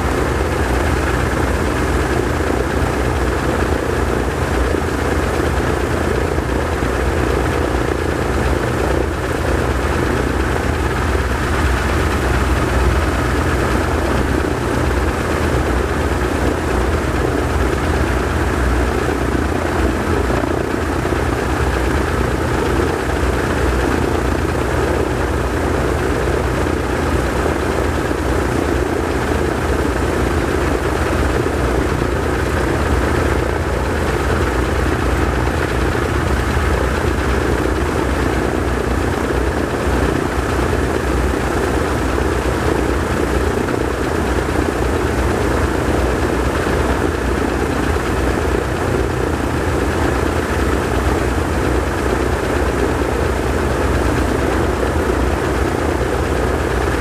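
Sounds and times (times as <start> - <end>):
radial aircraft engines running: 0.0 - 57.0.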